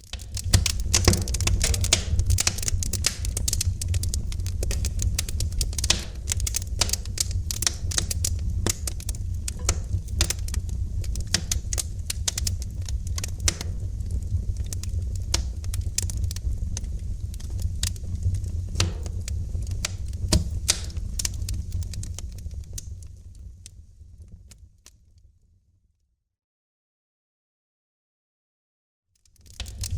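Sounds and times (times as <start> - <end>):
wood fire crackling and popping: 0.0 - 25.0, 29.2 - 29.9
low rumble of burning: 0.0 - 25.6, 29.2 - 29.9.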